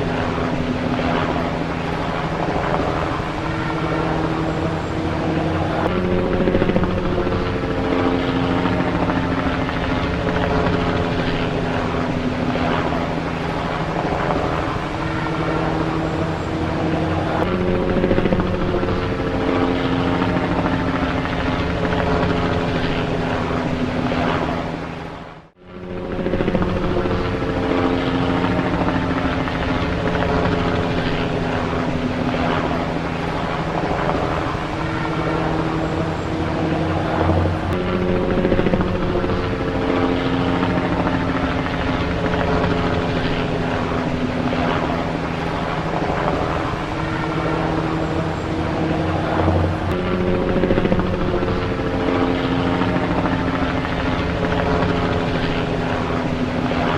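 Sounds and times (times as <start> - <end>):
helicopter engine and rotor drone: 0.0 - 56.9.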